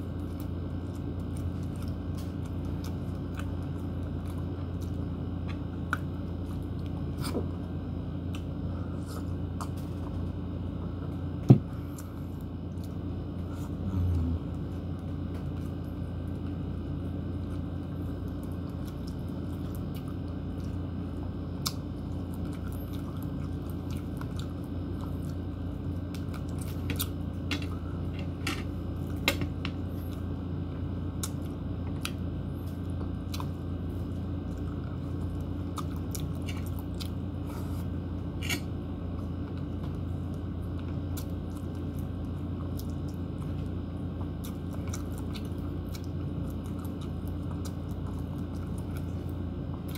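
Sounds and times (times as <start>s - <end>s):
low hum: 0.0s - 49.9s
person chewing meat: 0.0s - 49.9s.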